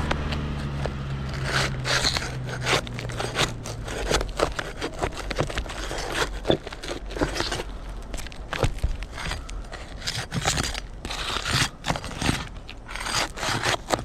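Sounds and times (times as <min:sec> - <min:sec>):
roof shingles cracking and scraping: 0:00.0 - 0:14.0.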